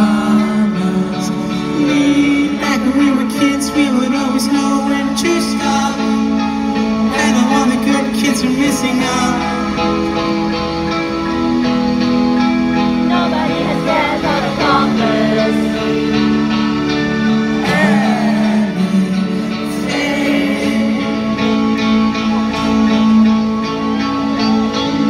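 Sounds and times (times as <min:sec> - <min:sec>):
person singing: 0:00.0 - 0:10.5, 0:13.0 - 0:16.6, 0:17.5 - 0:25.0
rock band playing live: 0:00.0 - 0:25.0.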